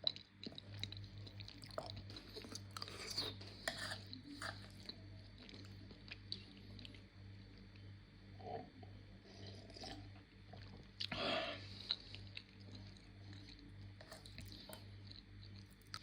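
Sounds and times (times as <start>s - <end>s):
person chewing food: 0.0s - 7.8s, 8.4s - 16.0s.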